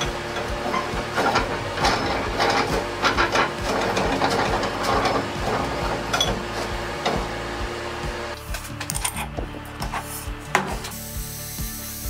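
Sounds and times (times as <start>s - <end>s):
metal scraping and clicking vise: 0.0s - 7.3s, 8.4s - 10.9s.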